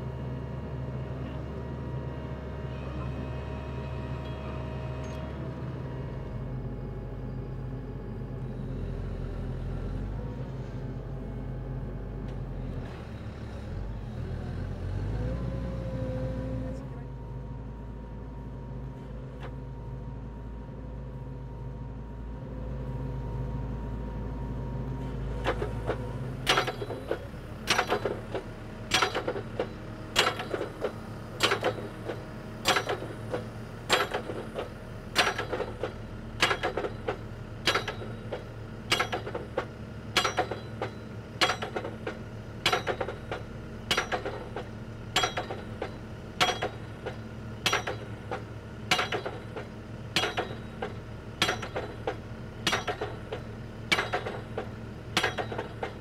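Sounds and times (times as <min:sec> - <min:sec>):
rig engine hum: 0:00.0 - 0:56.0.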